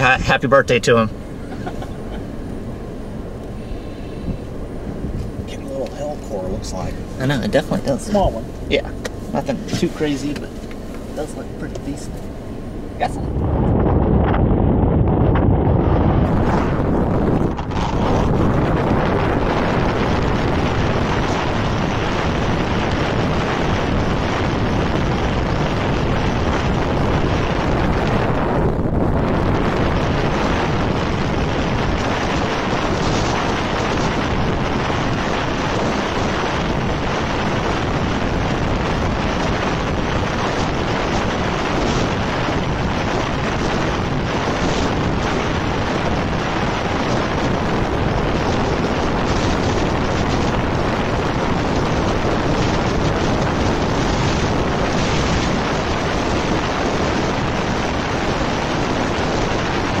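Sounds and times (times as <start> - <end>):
wind rushing: 0.0 - 10.2, 10.8 - 60.0
road noise: 0.0 - 60.0
wind buffeting microphone: 1.0 - 60.0.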